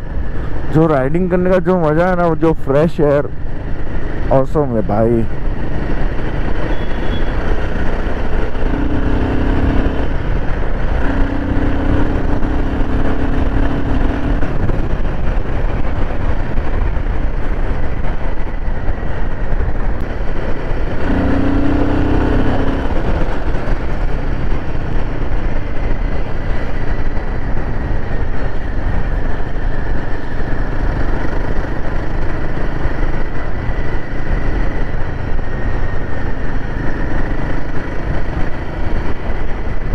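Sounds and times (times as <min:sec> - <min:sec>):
motorcycle engine running steadily: 0:00.0 - 0:39.9
wind and road noise: 0:00.0 - 0:39.9.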